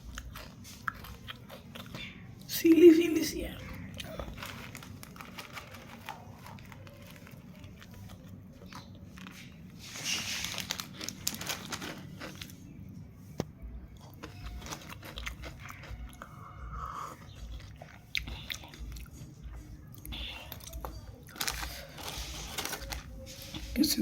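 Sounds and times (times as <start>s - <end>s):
chewing and crunching snacks: 0.0s - 2.9s, 3.5s - 24.0s.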